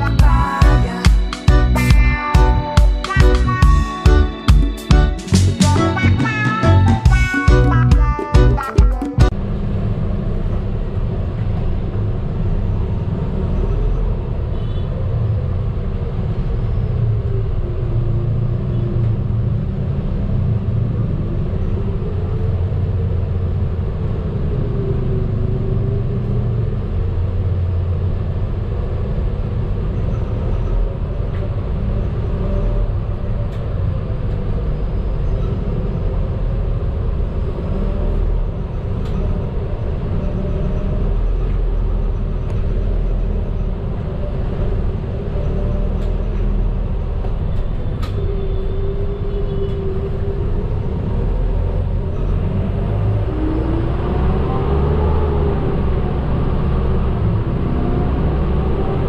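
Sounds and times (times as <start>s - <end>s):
bus engine and road rumble: 0.0s - 2.8s, 9.3s - 59.0s
bus whine: 0.0s - 59.0s.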